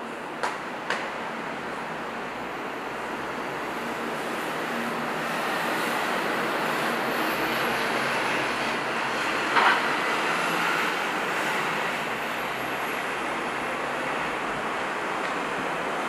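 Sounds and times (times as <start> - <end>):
distant jet engine rushing: 0.0 - 16.0.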